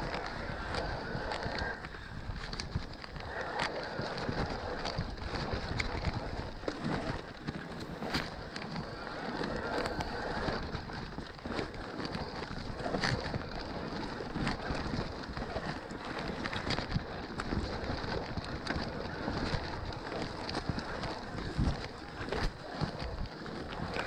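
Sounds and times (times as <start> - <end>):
bike tyres rolling on rough trail: 0.0 - 24.0
wind buffeting microphone: 0.0 - 24.0.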